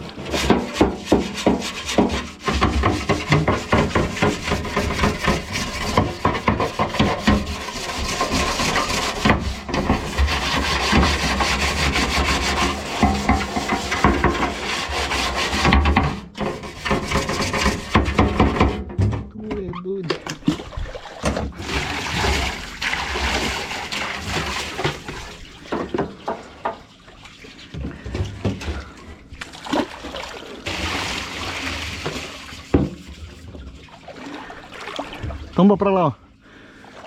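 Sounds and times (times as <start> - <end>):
brush scrubbing boat hull: 0.0 - 19.0, 20.4 - 29.0, 29.6 - 35.8.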